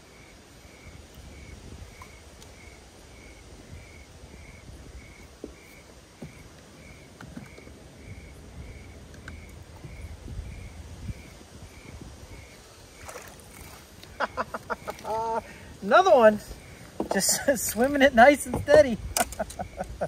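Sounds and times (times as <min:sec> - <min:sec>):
low rumble of wind: 0:00.0 - 0:20.0
water rumbling: 0:00.7 - 0:20.0.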